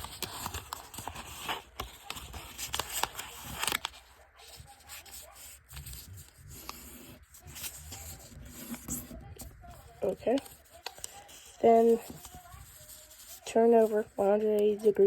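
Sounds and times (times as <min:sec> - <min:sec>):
paper rubbing as creased: 0:00.0 - 0:14.9
paper rustling and crackling: 0:00.0 - 0:15.0.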